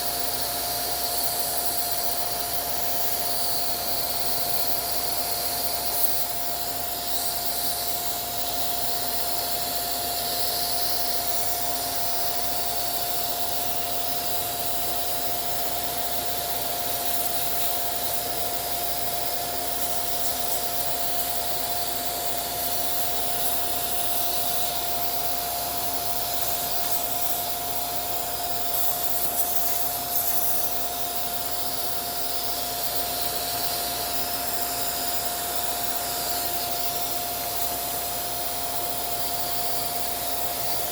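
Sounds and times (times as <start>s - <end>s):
small vacuum cleaner running: 0.0s - 40.9s.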